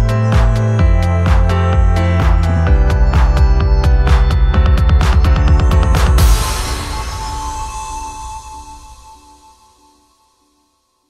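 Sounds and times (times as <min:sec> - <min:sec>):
electronic music with heavy beat: 0:00.0 - 0:09.8.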